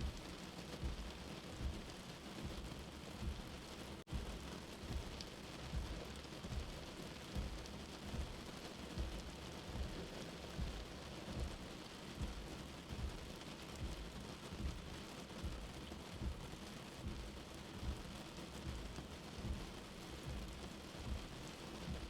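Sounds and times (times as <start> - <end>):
low heartbeat thumping: 0.0 - 22.0.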